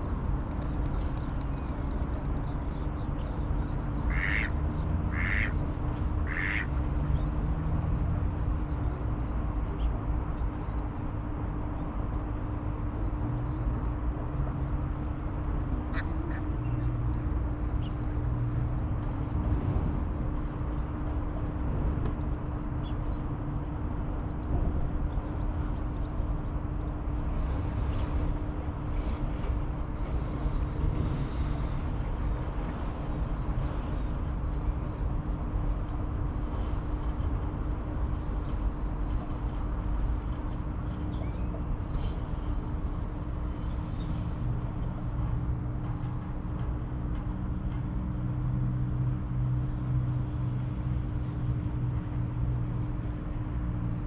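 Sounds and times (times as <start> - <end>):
constant hum: 0.0 - 54.0
distant traffic rumble: 0.0 - 54.0
engine hum: 0.0 - 54.0.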